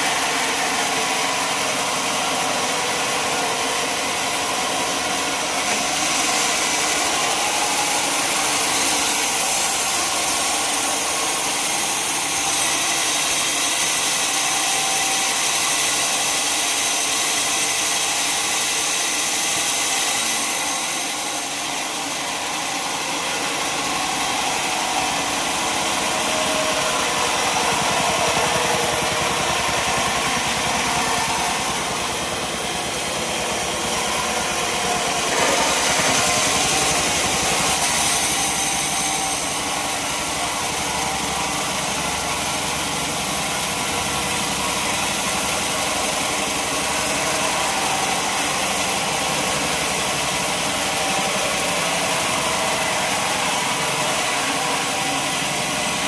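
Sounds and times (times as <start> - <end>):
sawmill machinery engine running: 0.0 - 56.0.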